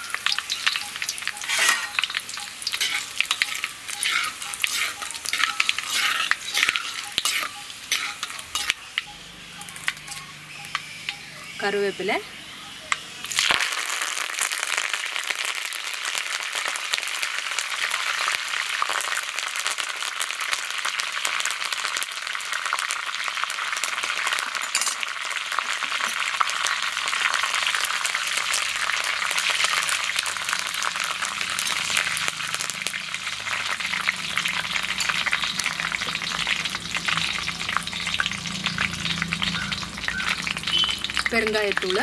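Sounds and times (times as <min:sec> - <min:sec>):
leaves and chillies sizzling in oil: 0:00.0 - 0:42.0.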